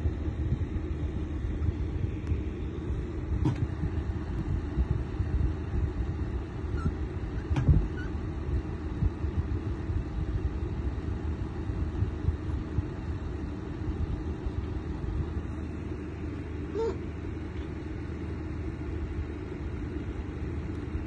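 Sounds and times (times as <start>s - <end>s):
fan heater blowing air: 0.0s - 21.0s.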